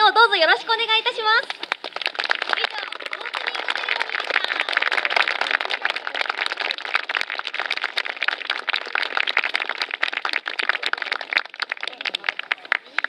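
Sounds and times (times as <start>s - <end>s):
crowd applauding: 1.0s - 13.0s.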